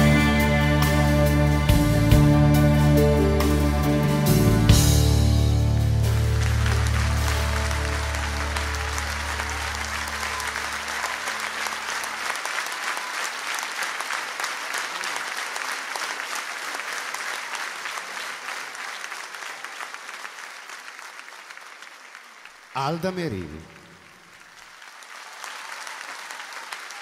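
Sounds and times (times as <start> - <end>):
audience applauding: 0.0 - 27.0.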